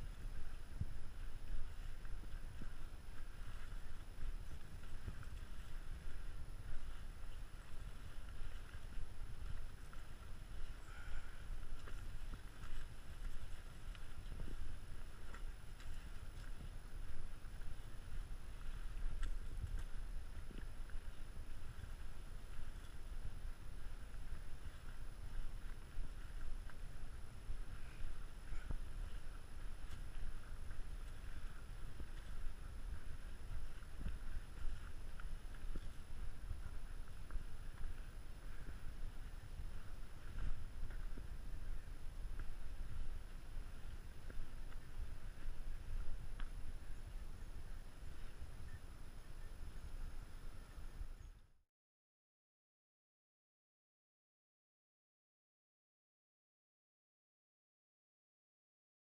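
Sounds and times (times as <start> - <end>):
footsteps on dirt trail: 0.0 - 51.2
wind on microphone: 0.0 - 51.4.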